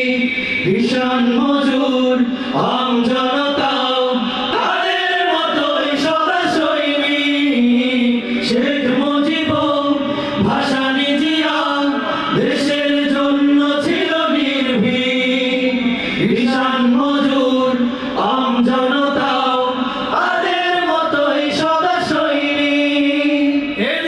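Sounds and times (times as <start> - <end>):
male vocal group singing: 0.0 - 24.0.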